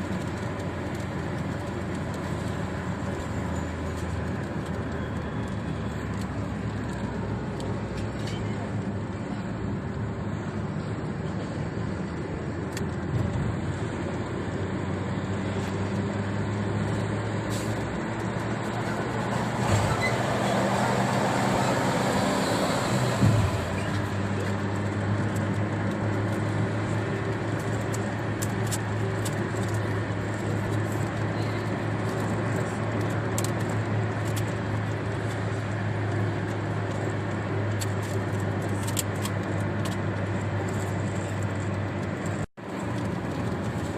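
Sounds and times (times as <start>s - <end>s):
rain on car windshield: 0.0s - 8.2s, 12.4s - 43.9s
road and engine hum: 0.0s - 43.9s.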